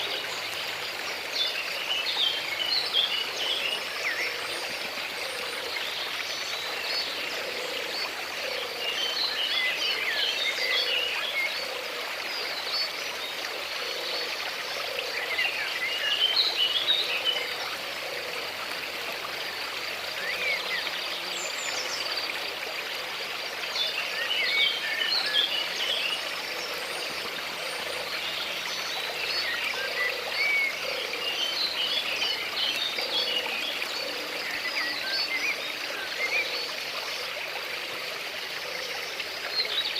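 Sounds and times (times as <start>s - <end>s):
frogs croaking: 0.0s - 39.9s
water flowing: 0.0s - 39.9s.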